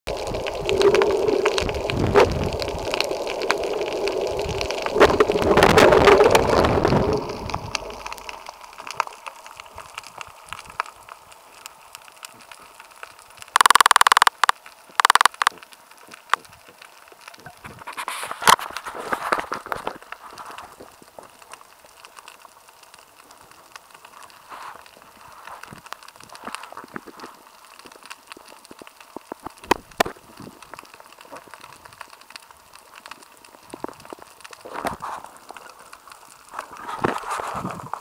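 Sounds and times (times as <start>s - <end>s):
crackling clicks: 0.1s - 38.0s
underwater churning and bubbling: 0.1s - 38.0s.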